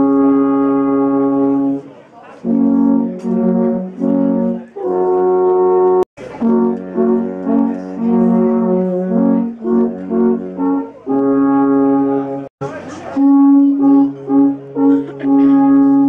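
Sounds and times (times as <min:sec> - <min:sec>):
alphorns playing in harmony: 0:00.0 - 0:01.8, 0:02.4 - 0:16.0.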